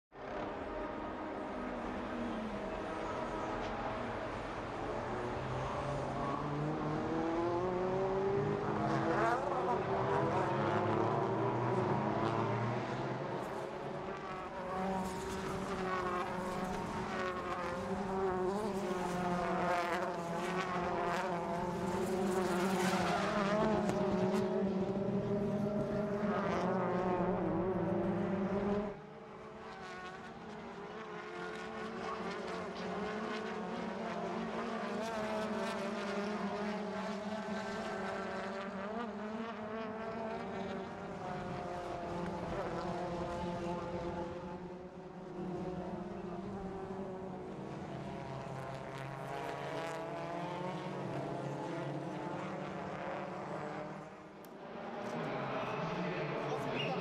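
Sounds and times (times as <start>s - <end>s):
racing car engines revving: 0.2s - 57.0s.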